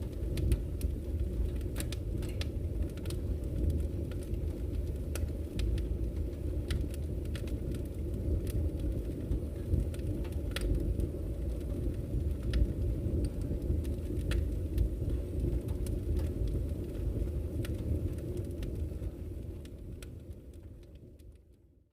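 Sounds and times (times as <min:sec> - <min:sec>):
burning logs crackling and popping: 0:00.0 - 0:21.8
low rumble of flames: 0:00.0 - 0:21.9.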